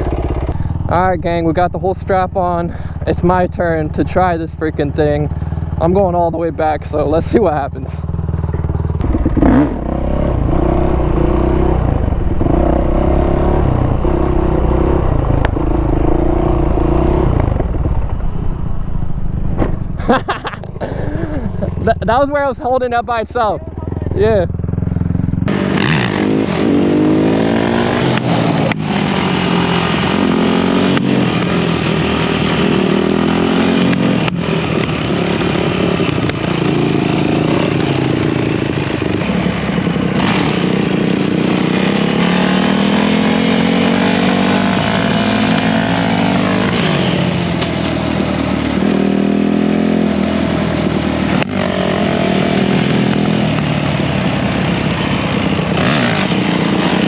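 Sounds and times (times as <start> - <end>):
dirt bike engine revving: 2.4 - 18.0, 19.5 - 57.0.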